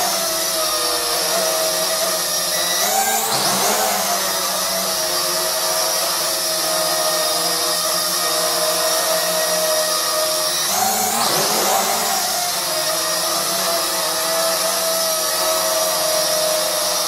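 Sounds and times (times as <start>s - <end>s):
toy quadcopter buzzing whine: 0.0s - 17.0s.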